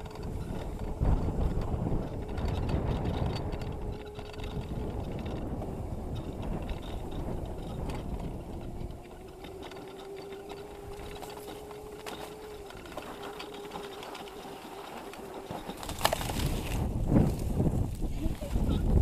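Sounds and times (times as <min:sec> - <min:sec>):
electric motor whining: 0:00.0 - 0:16.1.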